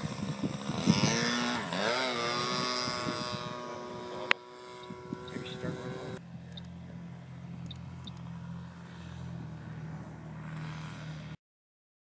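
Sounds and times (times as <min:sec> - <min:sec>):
model airplane engine droning: 0:00.0 - 0:11.4.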